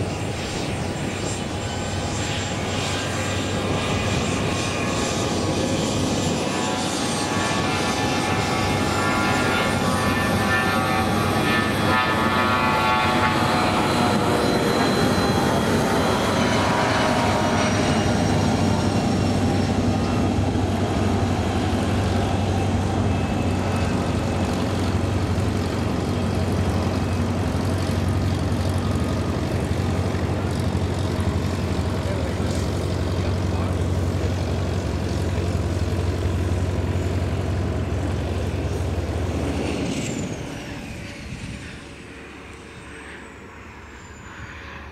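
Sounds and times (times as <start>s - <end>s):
jet engines passing: 0.0s - 44.9s.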